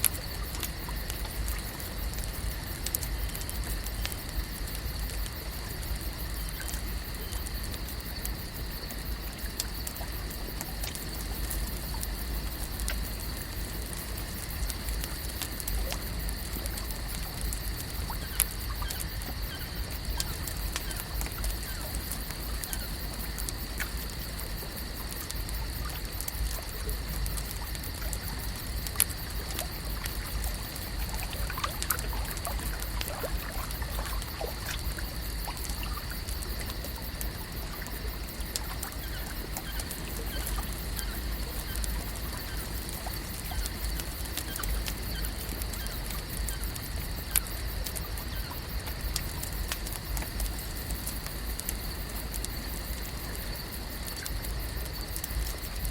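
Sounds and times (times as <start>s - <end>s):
small scattered clicks: 0.0s - 55.9s
water trickling and lapping: 0.0s - 55.9s.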